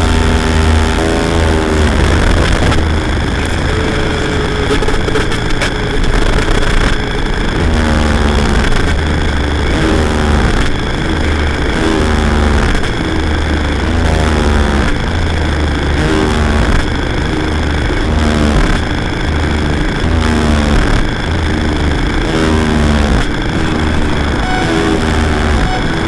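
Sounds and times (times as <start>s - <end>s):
electronic noise drone music: 0.0s - 18.2s, 21.4s - 26.0s.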